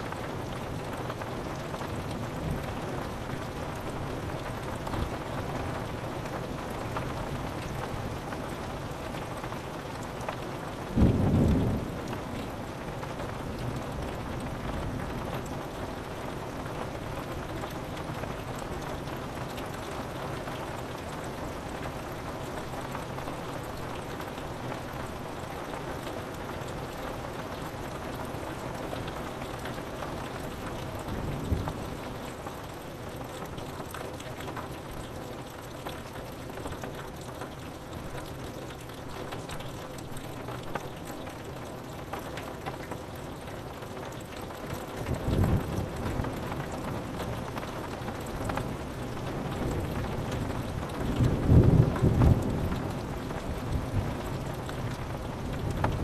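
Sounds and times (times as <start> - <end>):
rain on window glass: 0.0 - 56.0.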